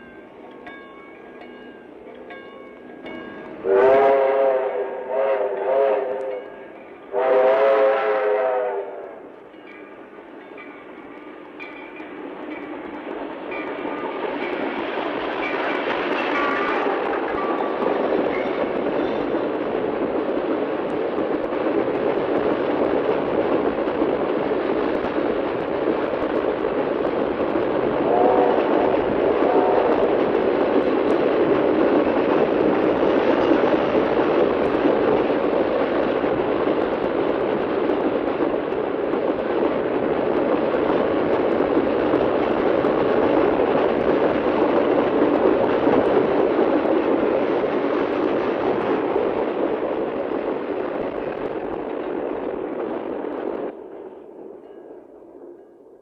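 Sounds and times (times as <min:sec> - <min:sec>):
train running on rails: 0:00.0 - 0:56.0.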